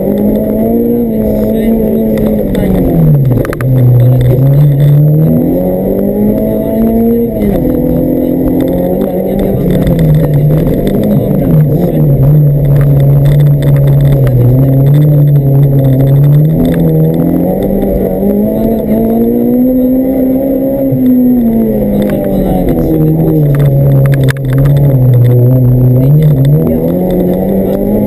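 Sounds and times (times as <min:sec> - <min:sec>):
car engine revving hard: 0:00.0 - 0:28.0.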